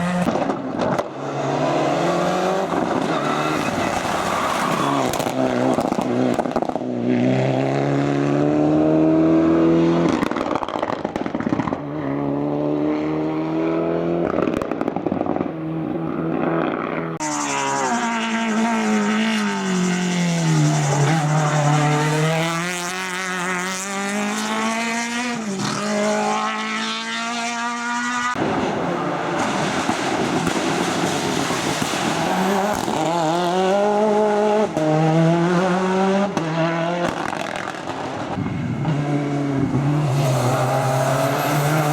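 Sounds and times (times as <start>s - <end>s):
racing car engines revving: 0.0s - 41.9s.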